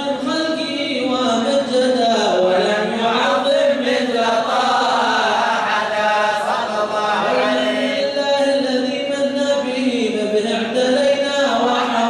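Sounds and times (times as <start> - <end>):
men chanting devotional song: 0.0 - 12.0.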